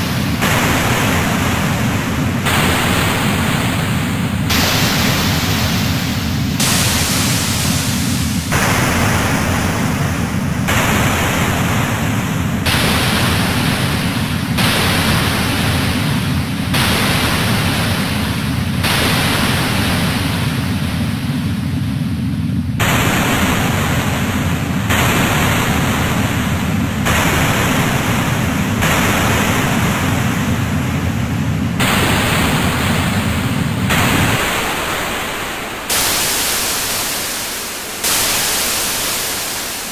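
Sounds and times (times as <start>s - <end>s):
layered electronic hiss: 0.0s - 39.9s
low noise rumble: 0.0s - 39.9s.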